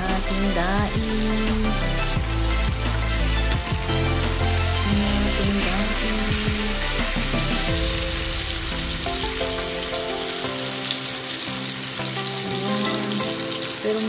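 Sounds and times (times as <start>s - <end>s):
background music: 0.0s - 14.0s
fish sizzling in hot oil: 0.0s - 14.0s.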